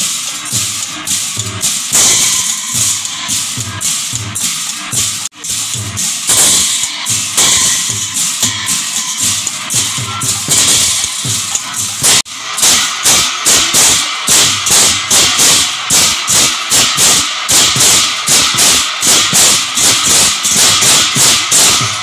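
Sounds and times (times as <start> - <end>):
brass hand cymbals clashing: 0.0 - 22.0.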